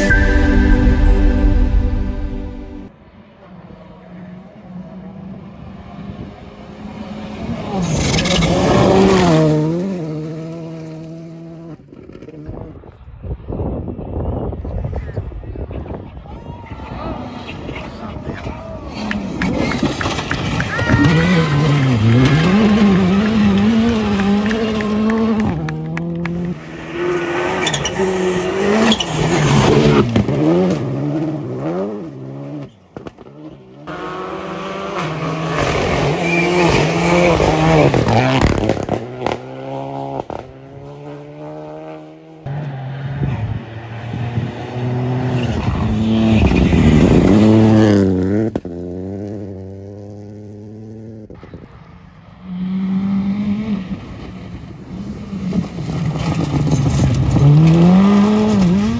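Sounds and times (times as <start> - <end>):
rally cars revving past: 4.7 - 12.8, 18.9 - 51.5, 52.2 - 58.9.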